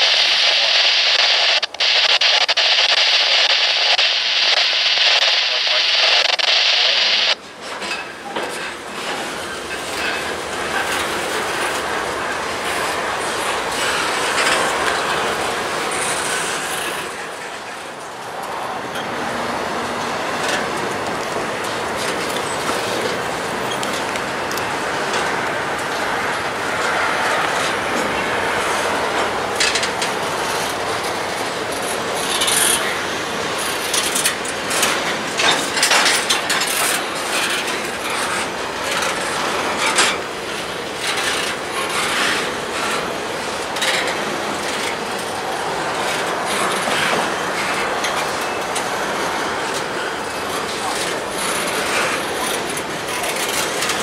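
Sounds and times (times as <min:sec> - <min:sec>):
freight train wheels on rails: 0:07.4 - 0:54.0
train clicks and clanks: 0:07.4 - 0:54.0.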